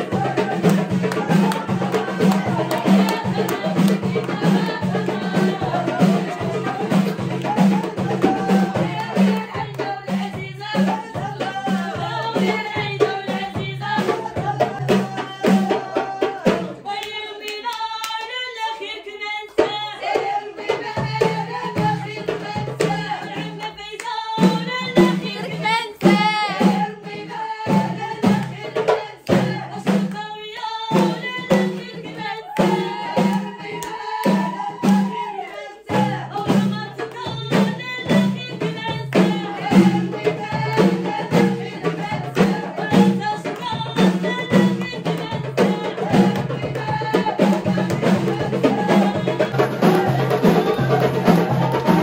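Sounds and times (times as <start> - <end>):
even drum beat: 0.0 - 52.0
person singing: 0.0 - 52.0.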